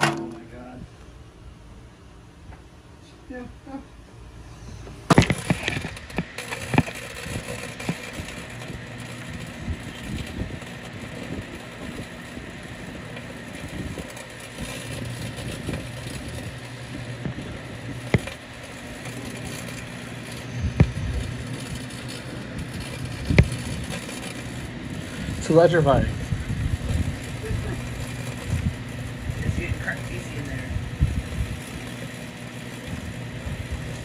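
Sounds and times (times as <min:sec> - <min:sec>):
microwave oven humming: 0:00.0 - 0:34.0.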